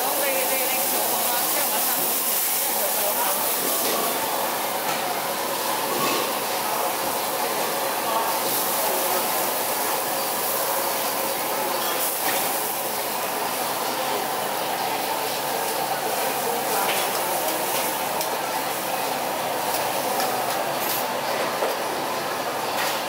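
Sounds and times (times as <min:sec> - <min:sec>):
seafood sizzling in a wok: 0:00.0 - 0:23.0.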